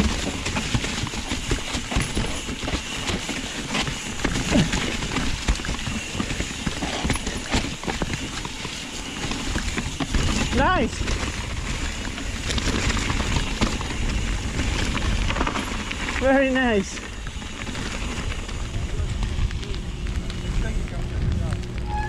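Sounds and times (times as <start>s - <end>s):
mountain bike rattling: 0.0s - 22.0s
steady rushing noise: 0.0s - 22.0s.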